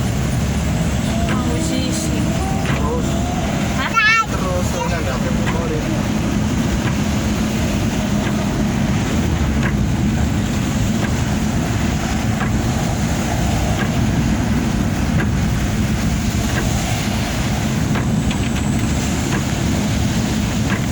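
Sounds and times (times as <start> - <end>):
diesel truck engine running: 0.0 - 20.9.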